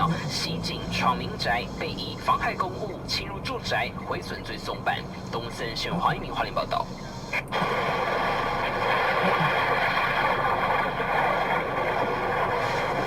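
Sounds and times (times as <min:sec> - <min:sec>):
engine drone with faint whine: 0:00.0 - 0:13.0.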